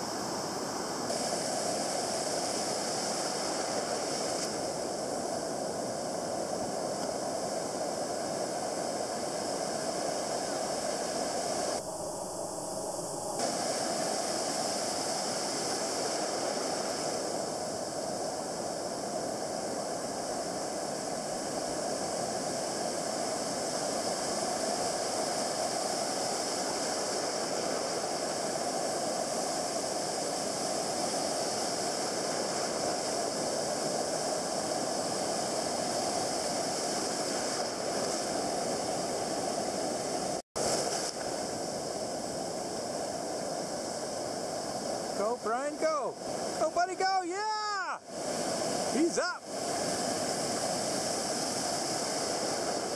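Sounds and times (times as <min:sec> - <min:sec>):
ocean surf breaking: 0:00.0 - 0:05.2, 0:13.3 - 0:18.4, 0:19.2 - 0:41.6, 0:42.9 - 0:52.9.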